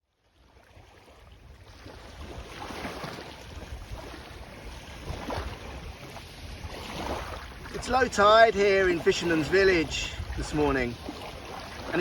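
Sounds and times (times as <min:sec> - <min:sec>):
sea wash: 0:00.0 - 0:12.0
wind buffeting microphone: 0:00.8 - 0:12.0.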